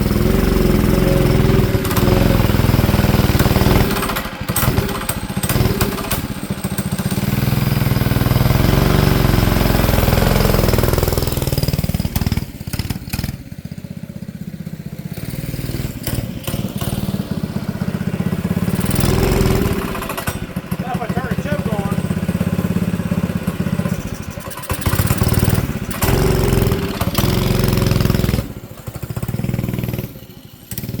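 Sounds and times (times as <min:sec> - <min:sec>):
small engine revving and idling: 0:00.0 - 0:31.0.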